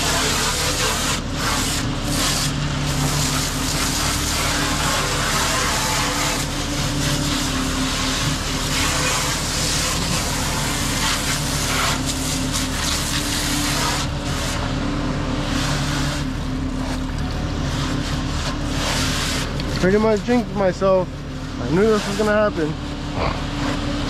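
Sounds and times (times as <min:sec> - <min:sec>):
diesel engine running: 0:00.0 - 0:24.0
water hose spraying on metal: 0:00.0 - 0:24.0.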